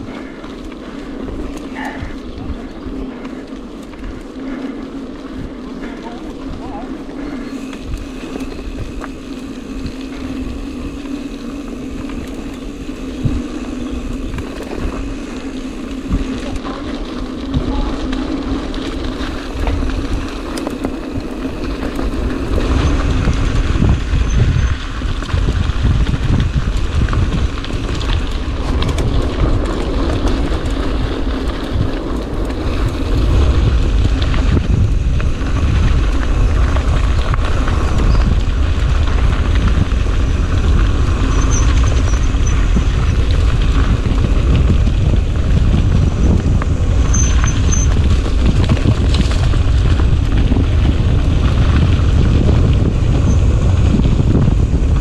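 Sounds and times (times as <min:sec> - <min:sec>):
bike rattles and clicks: 0:00.0 - 0:55.0
bike tyre hum: 0:00.0 - 0:55.0
wind rumbling on microphone: 0:00.0 - 0:55.0.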